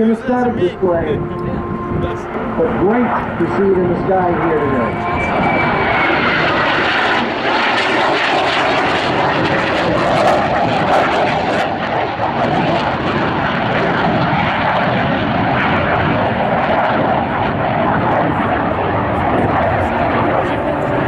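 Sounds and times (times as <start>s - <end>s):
jet flyby roar: 0.0s - 21.0s.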